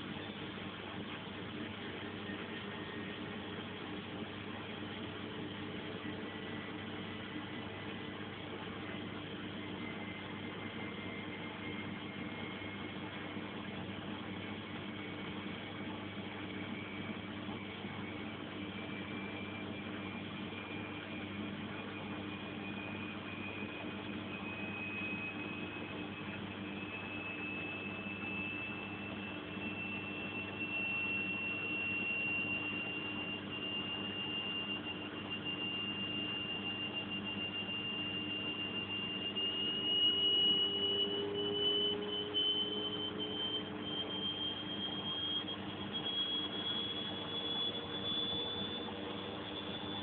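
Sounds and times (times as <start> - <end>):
lower rising whine: 0.0 - 50.0
steady hum: 0.0 - 50.0
washing machine motor whining: 0.0 - 50.0.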